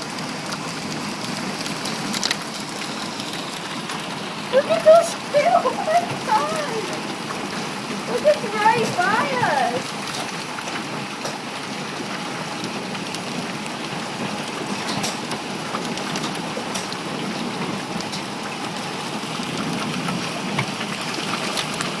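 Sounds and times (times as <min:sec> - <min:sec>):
heavy rain and hail pouring: 0:00.0 - 0:22.0
hailstones cracking on hard surfaces: 0:00.1 - 0:22.0.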